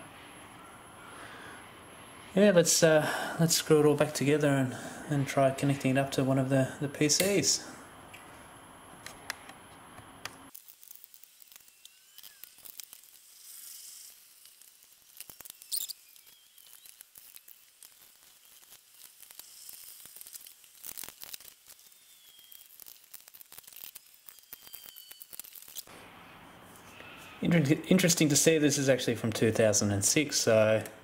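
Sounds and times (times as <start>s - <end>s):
high steady transformer whine: 0.0s - 31.0s.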